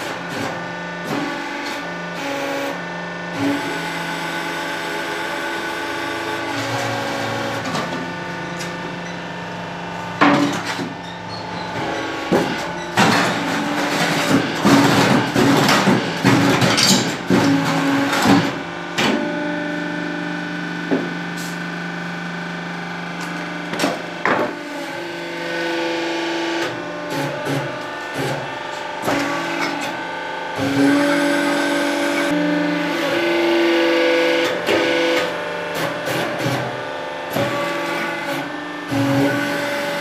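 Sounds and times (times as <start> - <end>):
electric motor and pump humming: 0.0 - 40.0.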